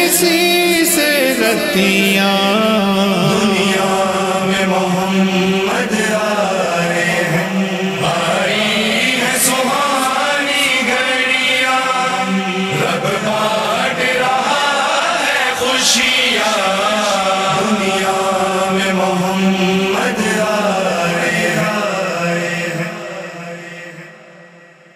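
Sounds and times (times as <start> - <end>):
man chanting devotional song: 0.0 - 24.4.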